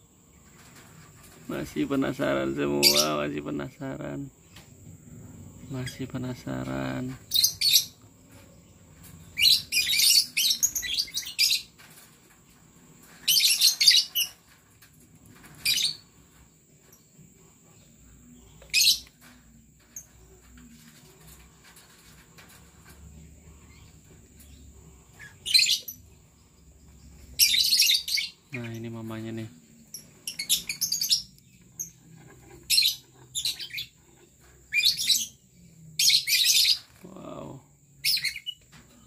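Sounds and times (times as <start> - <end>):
lovebirds chirping: 0.0 - 39.0.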